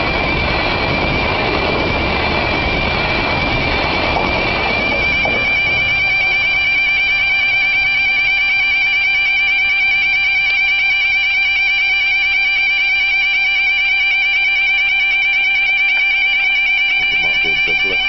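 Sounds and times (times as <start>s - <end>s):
train passing: 0.0s - 11.7s, 12.4s - 18.0s
level crossing alarm warbling: 0.0s - 18.0s.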